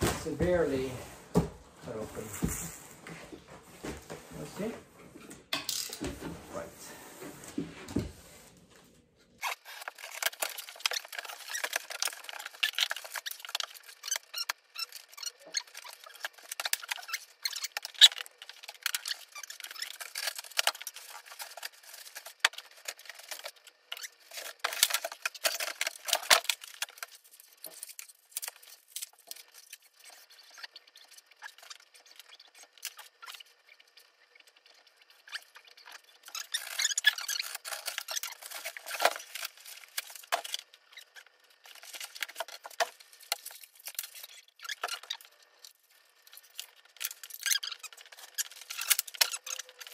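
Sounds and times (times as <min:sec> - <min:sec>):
cardboard rustling and crackling: 0:00.0 - 0:04.8, 0:06.1 - 0:33.8, 0:34.6 - 0:49.9
faint squeaks: 0:09.3 - 0:49.9.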